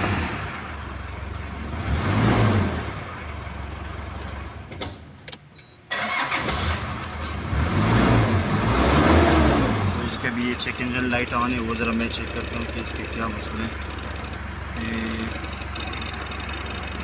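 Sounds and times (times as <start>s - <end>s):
diesel engine idling and revving: 0.0s - 17.0s.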